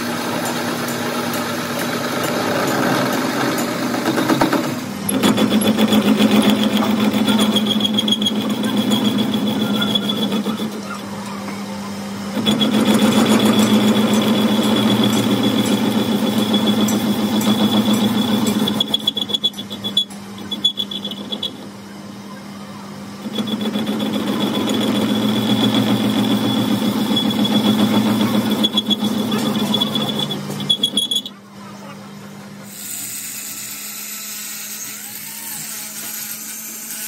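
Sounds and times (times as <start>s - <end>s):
metal lathe cutting steel: 0.0s - 11.1s, 11.9s - 21.8s, 23.0s - 31.4s, 32.6s - 37.0s.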